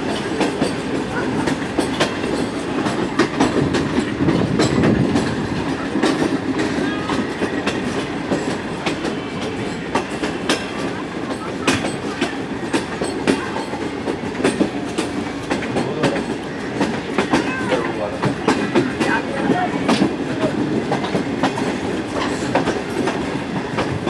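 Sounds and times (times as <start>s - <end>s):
train wheels rumbling on rails: 0.0s - 24.0s
wheels clicking over rail joints: 0.0s - 24.0s.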